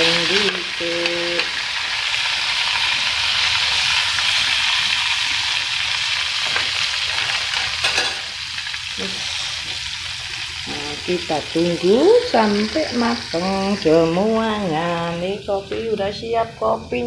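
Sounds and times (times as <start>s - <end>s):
oil sizzling and crackling: 0.0s - 16.7s.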